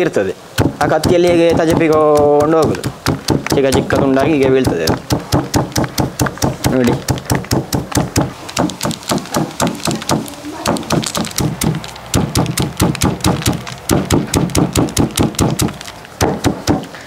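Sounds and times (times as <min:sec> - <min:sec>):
knife chopping fruit: 0:00.6 - 0:16.9.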